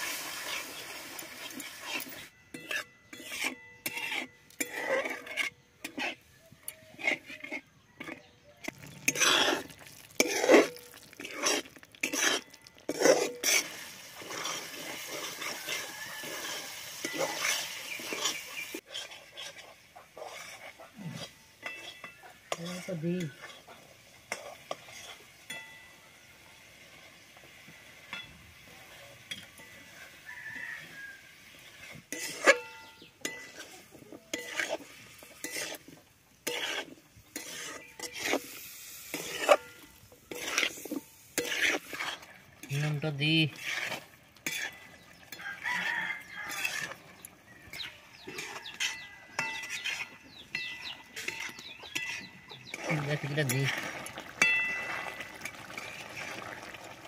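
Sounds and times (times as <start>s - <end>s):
paste sizzling: 0.0s - 6.2s, 8.6s - 25.6s, 33.2s - 57.0s
metal spatula scraping metal pan: 0.0s - 26.0s, 28.1s - 56.4s.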